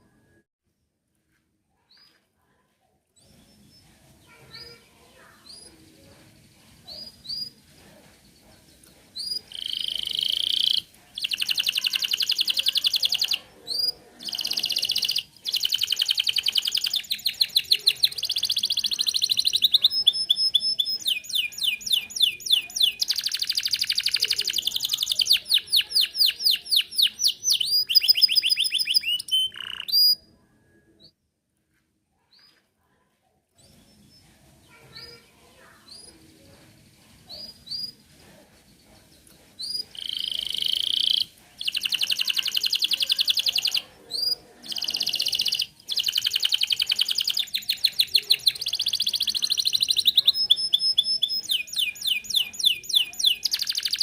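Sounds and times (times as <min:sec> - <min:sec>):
canary singing trills: 0:03.2 - 0:31.1, 0:33.6 - 0:54.0.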